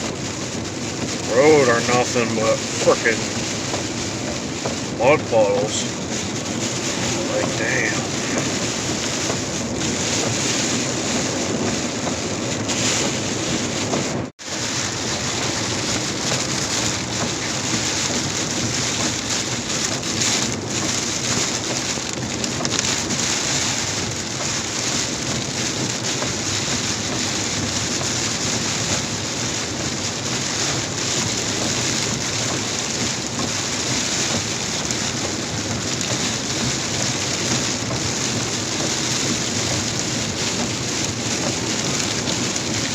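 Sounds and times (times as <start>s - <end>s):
heavy rain drumming on a car: 0.0s - 42.9s
tyre and road-water noise: 0.0s - 42.9s.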